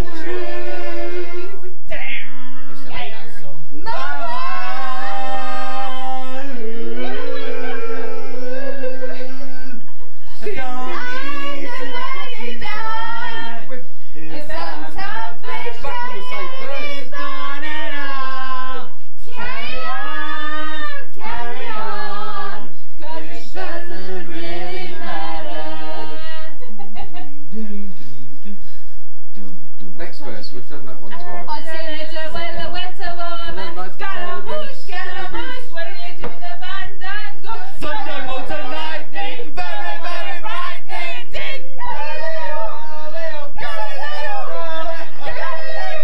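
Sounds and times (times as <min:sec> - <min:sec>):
group singing a cappella: 0:00.0 - 0:27.1, 0:31.1 - 0:46.0.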